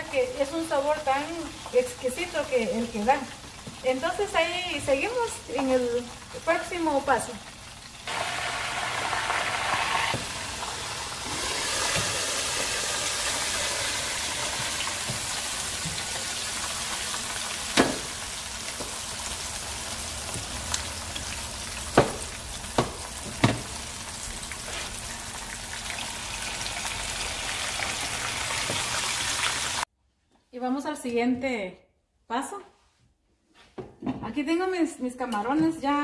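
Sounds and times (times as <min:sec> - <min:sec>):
fish sizzling in hot oil: 0:00.7 - 0:29.8.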